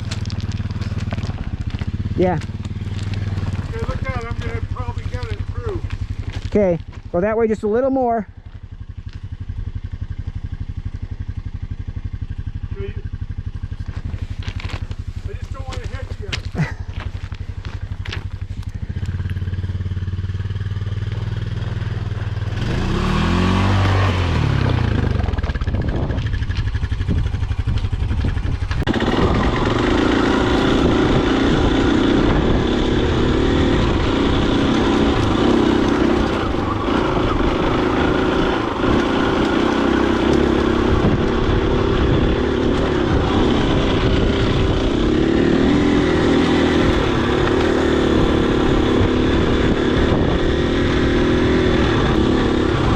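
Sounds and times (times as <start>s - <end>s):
dirt bike engine idling and revving: 0.0s - 52.9s
rattle and road noise: 0.0s - 52.9s.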